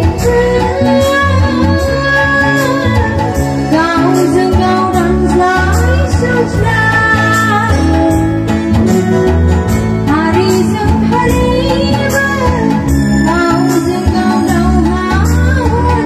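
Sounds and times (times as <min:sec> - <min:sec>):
bass and drum beat: 0:00.0 - 0:16.0
keyboard: 0:00.0 - 0:16.0
woman singing: 0:00.0 - 0:16.0.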